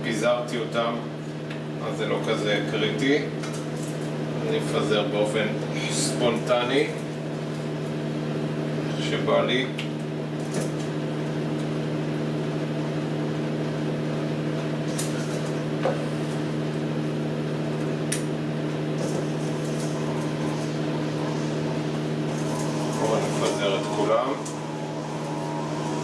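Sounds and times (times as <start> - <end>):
steady appliance hum: 0.0 - 26.0.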